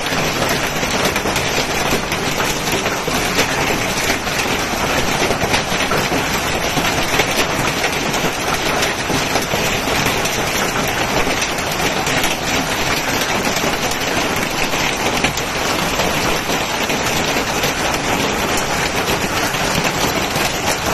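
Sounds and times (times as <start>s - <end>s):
hail and heavy rain: 0.0s - 20.9s.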